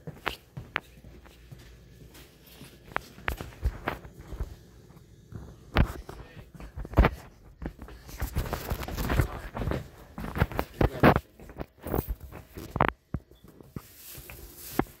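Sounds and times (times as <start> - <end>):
footsteps on hard floor: 0.0 - 15.0.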